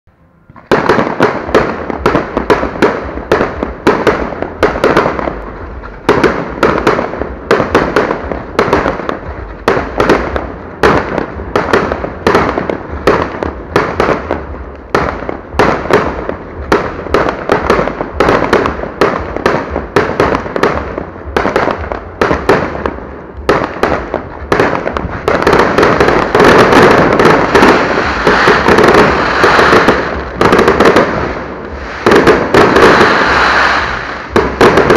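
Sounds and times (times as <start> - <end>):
fireworks launching and banging: 0.4 - 34.9.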